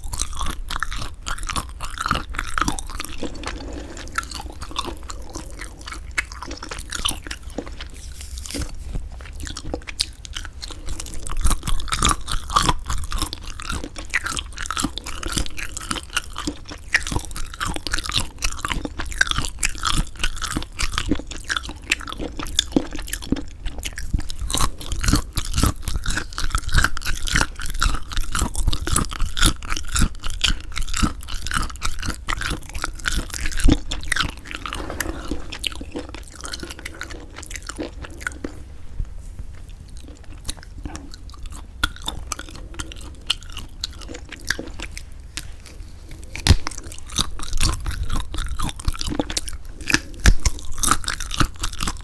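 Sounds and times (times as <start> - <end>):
close chewing with wet clicks: 0.0 - 34.7, 35.6 - 38.7, 39.6 - 52.0.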